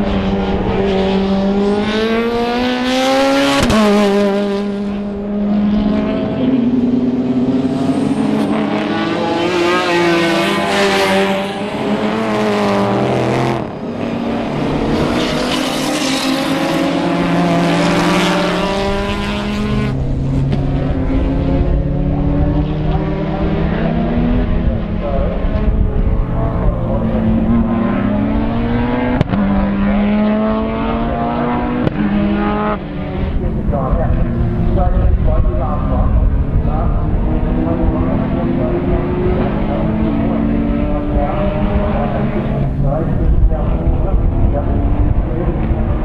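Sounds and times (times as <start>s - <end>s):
racing car engines passing: 0.0s - 46.0s.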